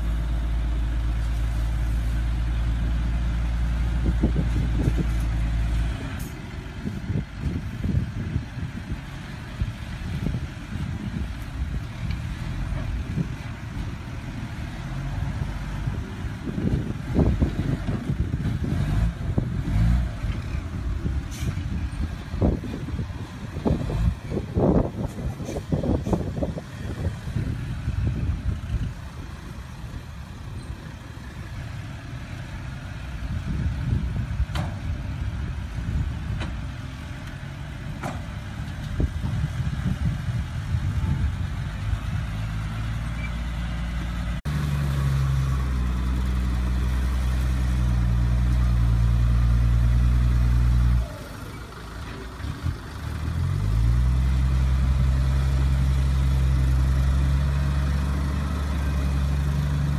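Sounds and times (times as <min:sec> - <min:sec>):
diesel truck engine drone: 0:00.0 - 0:59.9.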